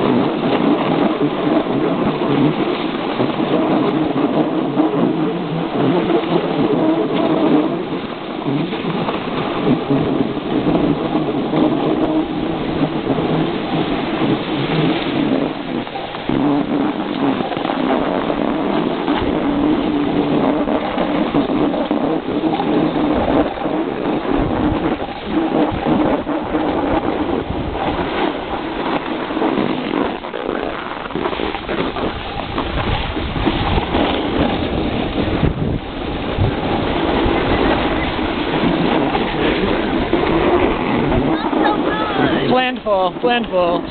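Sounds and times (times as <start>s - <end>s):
snowboard scraping on snow: 0.0s - 43.9s
wind on microphone: 0.0s - 43.9s.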